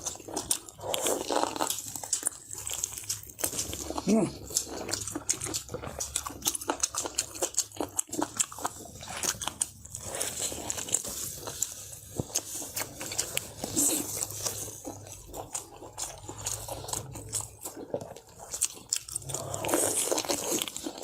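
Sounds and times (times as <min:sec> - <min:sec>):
person chewing and crunching: 0:00.0 - 0:21.0.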